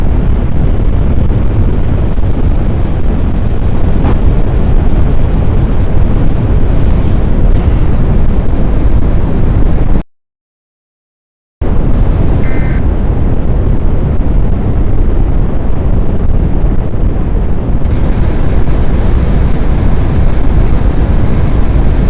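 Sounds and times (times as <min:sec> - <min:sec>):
wind buffeting microphone: 0:00.0 - 0:10.0, 0:11.6 - 0:22.0.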